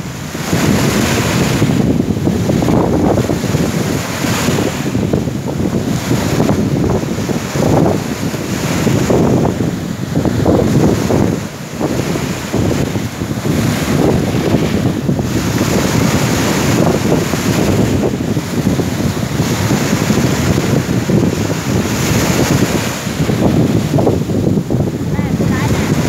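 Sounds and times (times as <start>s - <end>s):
sea waves: 0.0s - 26.0s
wind buffeting microphone: 0.0s - 26.0s.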